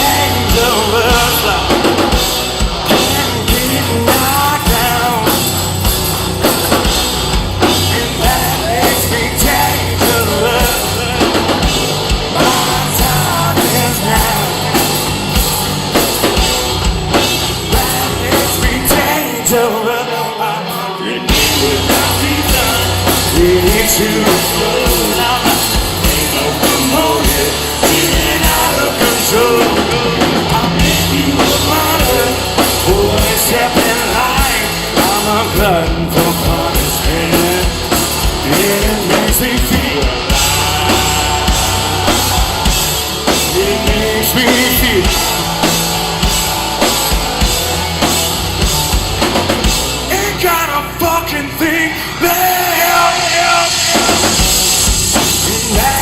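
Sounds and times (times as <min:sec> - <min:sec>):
hard rock band playing: 0:00.0 - 0:56.0.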